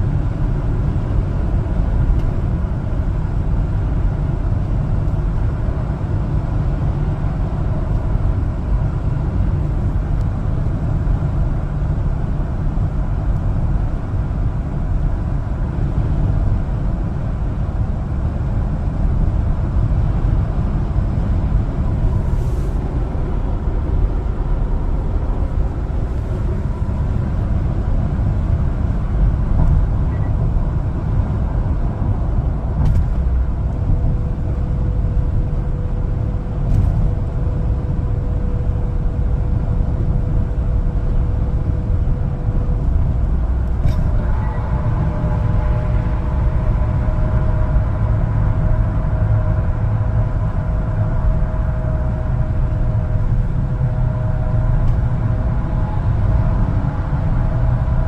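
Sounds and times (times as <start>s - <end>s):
road noise: 0.0s - 58.0s
truck engine rumble: 0.0s - 58.0s.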